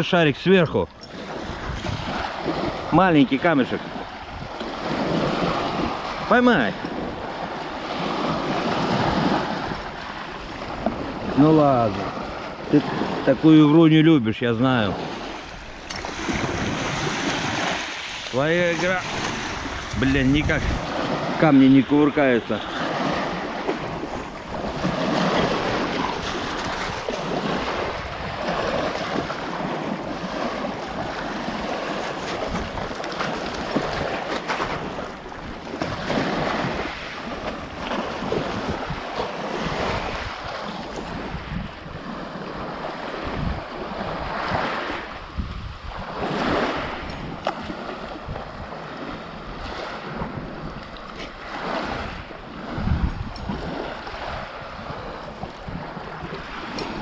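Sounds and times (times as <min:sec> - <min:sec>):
wind buffeting microphone: 0:00.0 - 0:57.0
waves breaking on pebble beach: 0:00.3 - 0:57.0.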